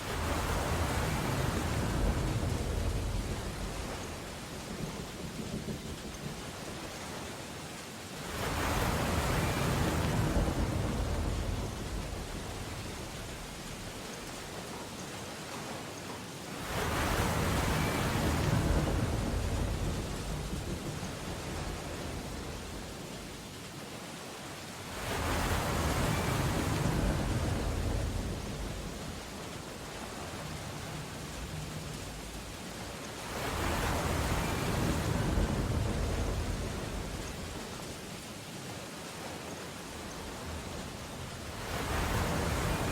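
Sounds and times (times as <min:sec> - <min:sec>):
heavy ocean waves surging: 0:00.0 - 0:42.9.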